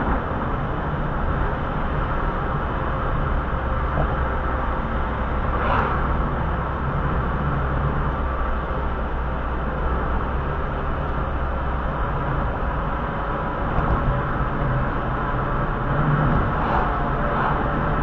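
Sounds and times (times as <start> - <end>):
low engine hum: 0.0 - 18.0
road and tyre noise: 0.0 - 18.0.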